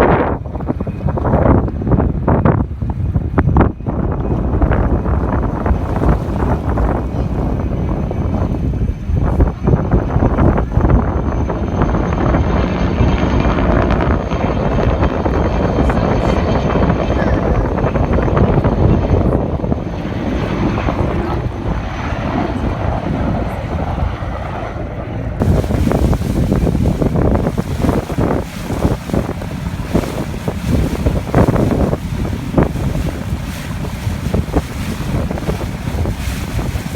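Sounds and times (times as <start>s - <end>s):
boat moving through water: 0.0s - 36.9s
wind noise on microphone: 0.0s - 36.9s
helicopter rotor and engine: 5.3s - 36.9s.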